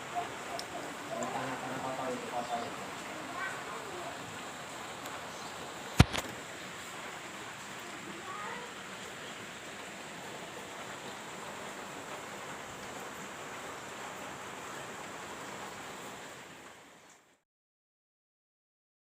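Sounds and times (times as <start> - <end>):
heavy rain hiss: 0.0 - 17.4.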